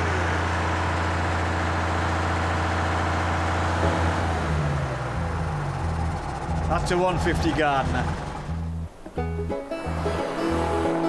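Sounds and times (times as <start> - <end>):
diesel engine idling: 0.0 - 9.0.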